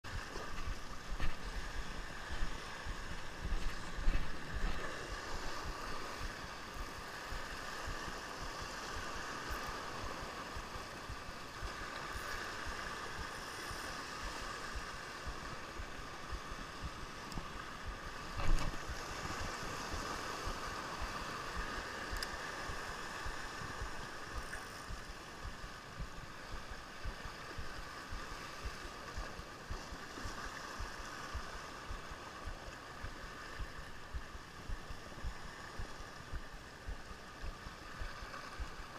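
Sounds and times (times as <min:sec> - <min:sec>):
waves washing over rocks: 0:00.1 - 0:38.9.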